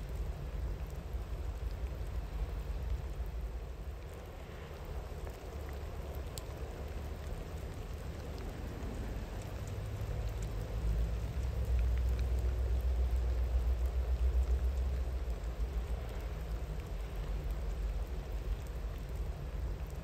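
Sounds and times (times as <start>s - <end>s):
raindrop ticks: 0.0s - 20.0s
steady rain: 0.0s - 20.0s.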